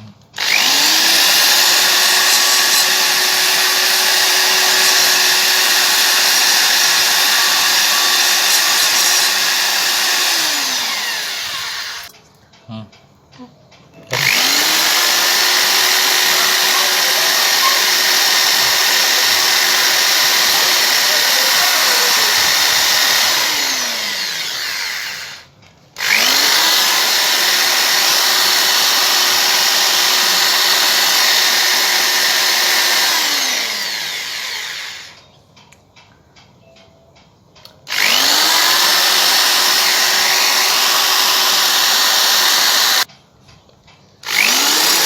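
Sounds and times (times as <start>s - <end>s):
electric drill whining: 0.4s - 12.1s, 14.1s - 35.2s, 37.9s - 43.1s, 44.2s - 45.0s.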